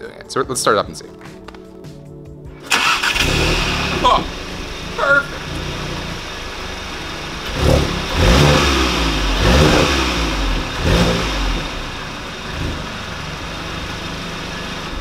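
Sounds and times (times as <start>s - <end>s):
car engine revving: 2.6s - 15.0s.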